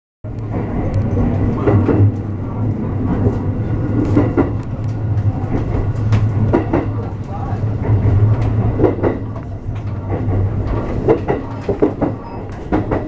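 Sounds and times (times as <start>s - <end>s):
train low hum: 0.2s - 13.0s
wheel on rail rumble: 0.3s - 13.0s.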